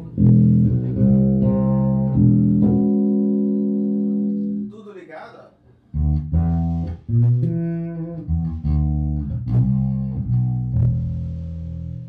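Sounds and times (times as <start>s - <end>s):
fretless bass plucked notes: 0.0s - 4.7s, 5.9s - 12.0s.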